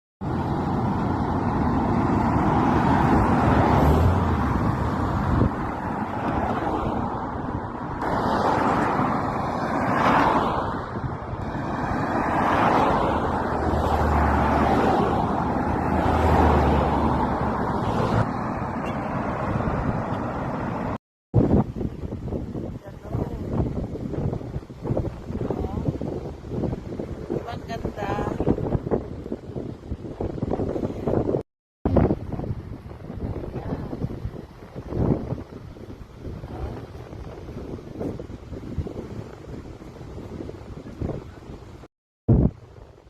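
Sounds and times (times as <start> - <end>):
cars passing on road: 0.2 - 43.0
wind buffeting microphone: 0.2 - 43.0.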